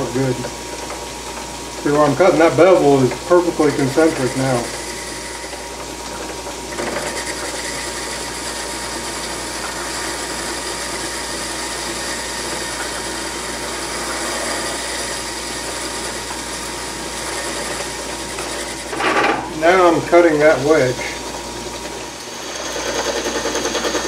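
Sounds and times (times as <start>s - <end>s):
metal lathe cutting: 0.0s - 24.0s.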